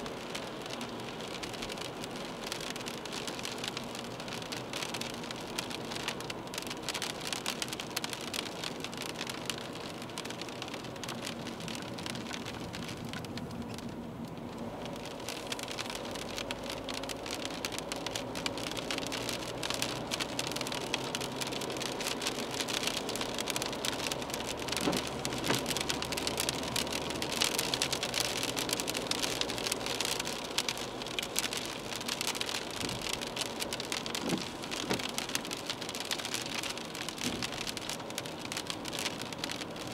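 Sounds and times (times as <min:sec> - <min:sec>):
low engine and road drone: 0:00.0 - 0:39.9
rain on car windscreen: 0:00.0 - 0:39.9
tyre hiss on wet road: 0:00.0 - 0:39.9.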